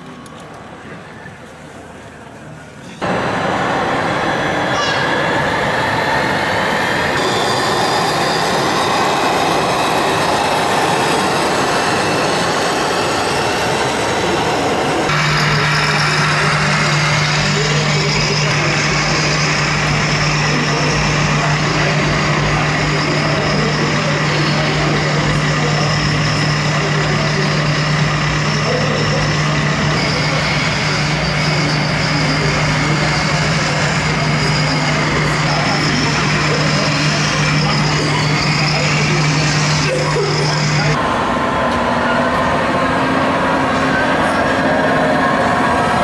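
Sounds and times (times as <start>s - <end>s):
crowd voices: 0.0s - 46.0s
simulated diesel truck engine: 3.0s - 46.0s.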